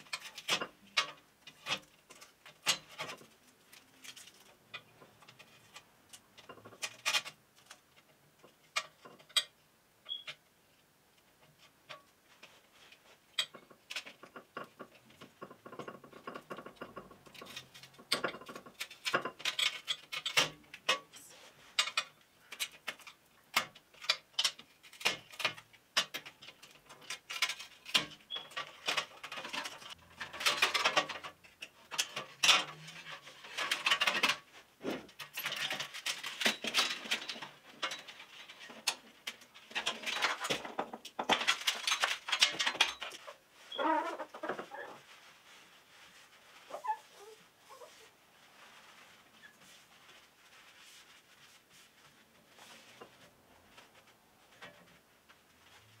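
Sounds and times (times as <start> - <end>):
rubbing and scraping on glass: 0.0 - 9.5, 11.4 - 56.0.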